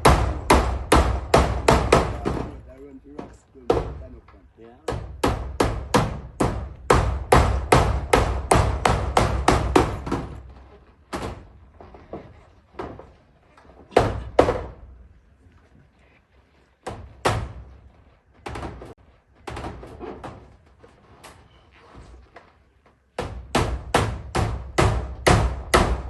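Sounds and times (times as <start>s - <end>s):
hammering on metal roof: 0.0s - 13.2s, 13.8s - 15.0s, 16.8s - 20.6s, 23.1s - 26.0s.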